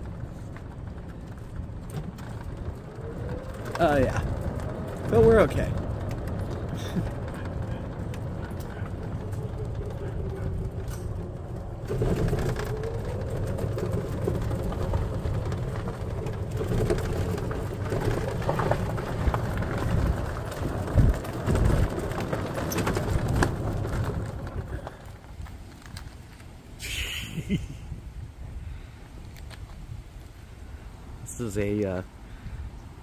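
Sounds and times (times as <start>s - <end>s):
golf cart driving on gravel: 0.0s - 32.0s.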